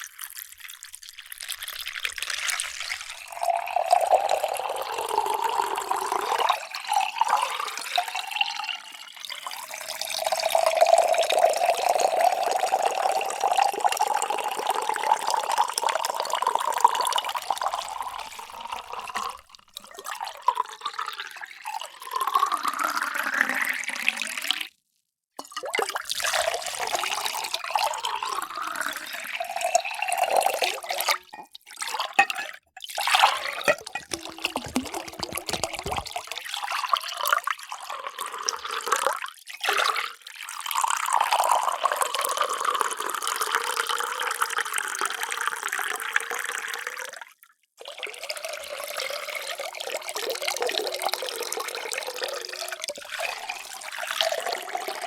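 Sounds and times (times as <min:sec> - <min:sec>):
water pouring into vessels: 0:00.0 - 0:24.7, 0:25.4 - 0:47.2, 0:47.8 - 0:55.0.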